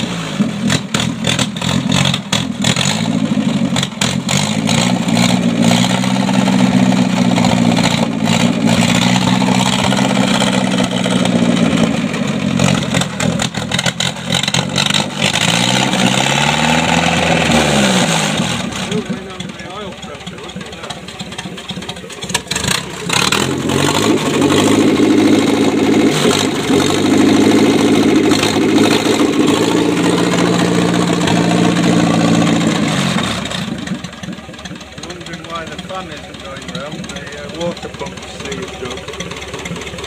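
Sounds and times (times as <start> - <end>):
petrol engine running: 0.0 - 40.0.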